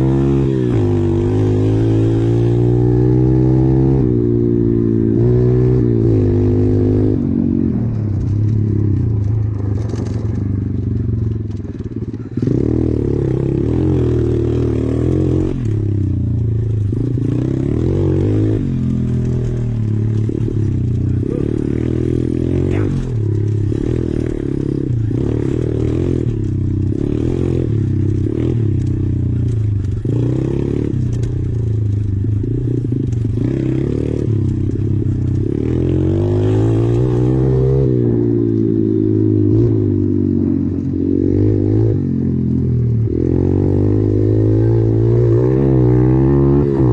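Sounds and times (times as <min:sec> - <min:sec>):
pit bike engine revving: 0:00.0 - 0:07.6, 0:09.8 - 0:46.9.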